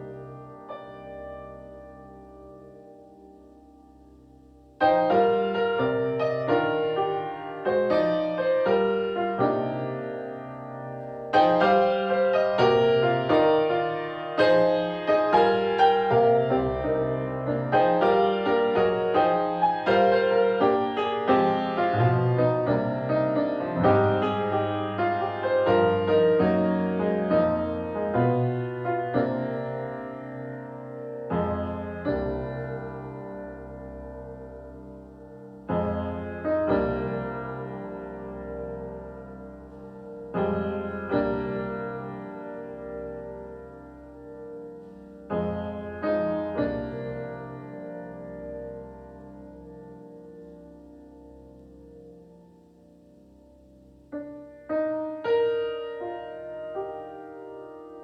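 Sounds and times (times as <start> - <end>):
slow piano piece: 0.0 - 58.0.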